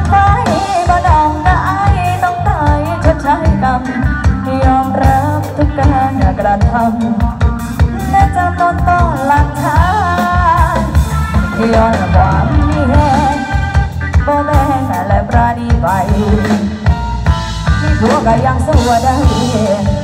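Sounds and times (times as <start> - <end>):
woman singing: 0.0 - 17.0, 17.7 - 20.0
bass guitar: 0.0 - 20.0
drum kit: 0.0 - 20.0
electric guitar: 0.0 - 20.0.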